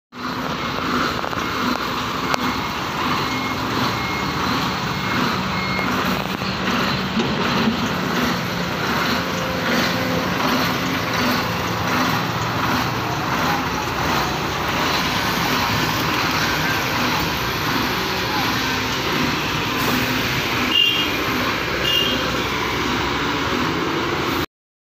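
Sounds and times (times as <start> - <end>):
excavator diesel engine running: 0.1 - 24.5
warning beeper: 0.2 - 23.4.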